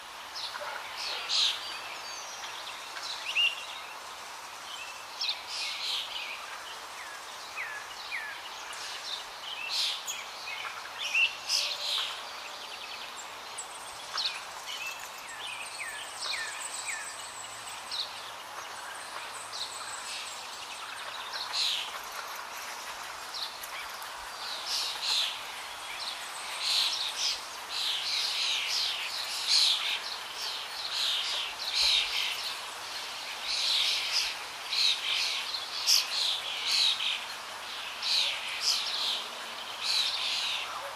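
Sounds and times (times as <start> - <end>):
background hiss: 0.0 - 40.9
small birds chirping: 0.0 - 40.9.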